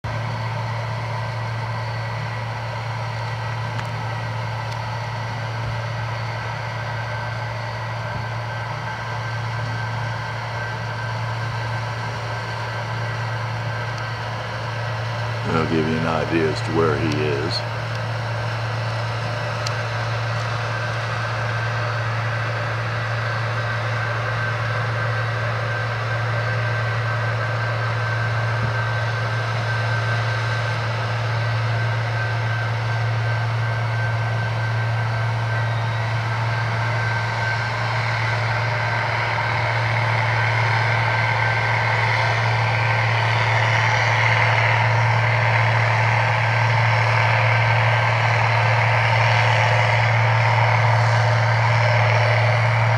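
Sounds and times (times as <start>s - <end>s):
cotton picker engine drone: 0.0s - 52.9s
broad machine whir: 0.1s - 52.9s.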